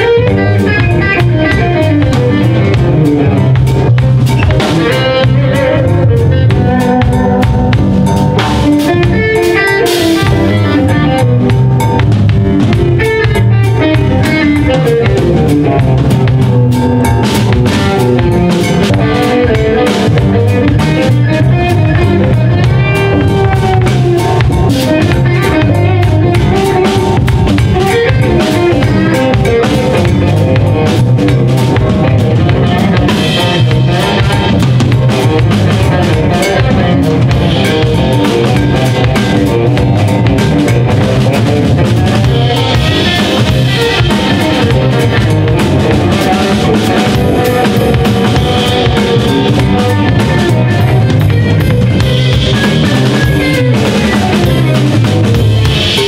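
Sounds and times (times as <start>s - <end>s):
electric guitar: 0.0s - 56.0s
live band playing: 0.0s - 56.0s.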